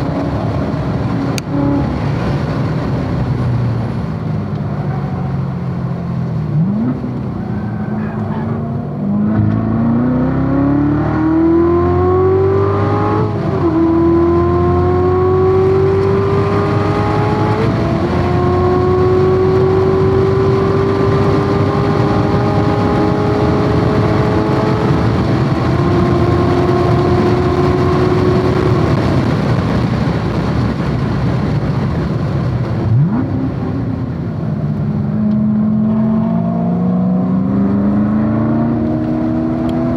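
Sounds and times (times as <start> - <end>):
car engine at full throttle: 0.0 - 39.9
engine throttle blips: 0.0 - 39.9.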